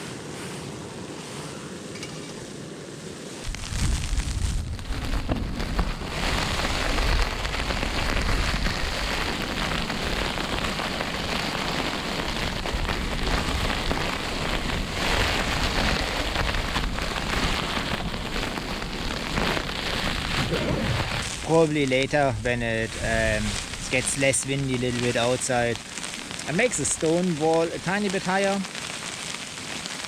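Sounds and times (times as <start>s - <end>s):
low rumble of storm wind: 0.0s - 29.4s
hail hitting tent fabric: 3.4s - 30.0s.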